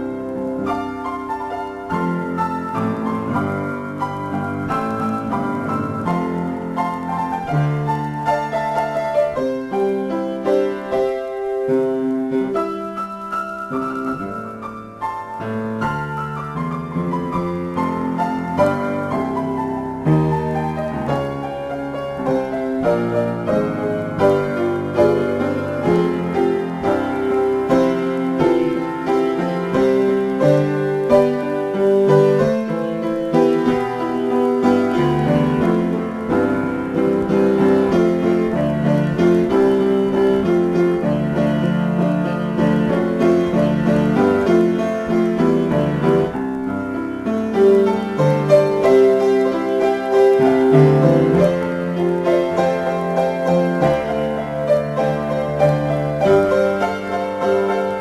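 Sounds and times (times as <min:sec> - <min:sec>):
improvised piano playing: 0:00.0 - 0:58.0.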